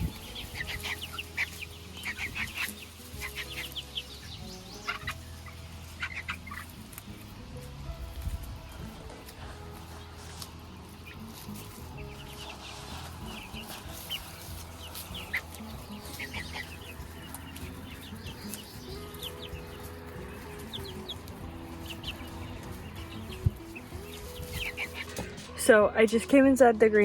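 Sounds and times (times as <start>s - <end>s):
hens clucking: 0.0s - 25.6s.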